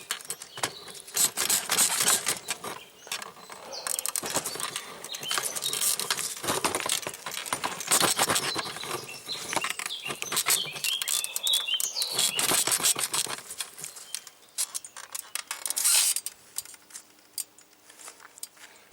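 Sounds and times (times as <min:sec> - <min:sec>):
bicycle saddle squeaking and creaking: 0:00.0 - 0:17.4.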